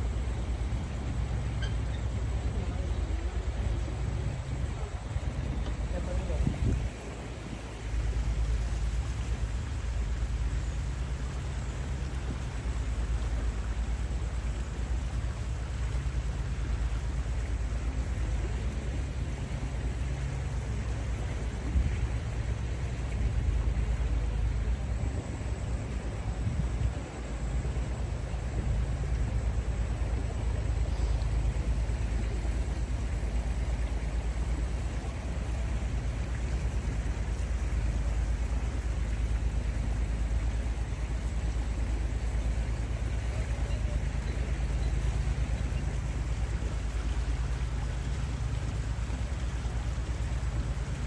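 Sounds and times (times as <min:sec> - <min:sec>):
boat engine rumbling: 0:00.0 - 0:51.0
steady hiss: 0:00.0 - 0:51.0.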